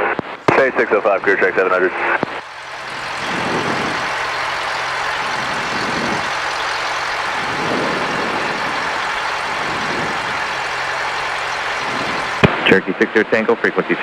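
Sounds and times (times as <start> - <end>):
airplane engine drone: 0.0 - 12.5
low hum: 0.3 - 12.4.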